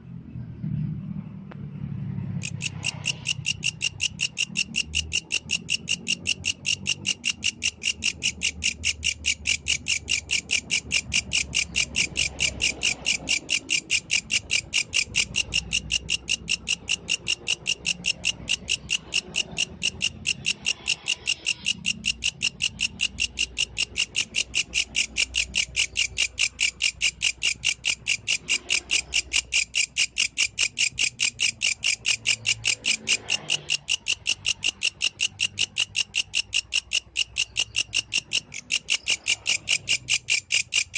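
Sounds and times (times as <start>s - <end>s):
grasshopper chirping: 2.1s - 40.9s.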